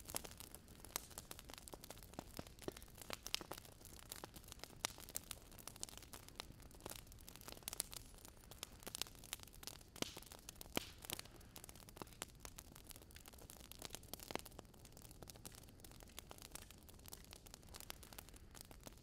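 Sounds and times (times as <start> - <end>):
campfire crackling and popping: 0.0 - 19.0
soft steady hiss: 0.0 - 19.0.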